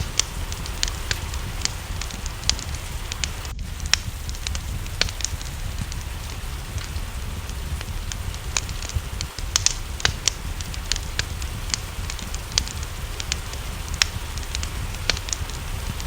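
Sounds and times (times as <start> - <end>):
low rumble: 0.0 - 16.0
rain hiss: 0.0 - 16.0
wood fire crackling: 0.0 - 16.0.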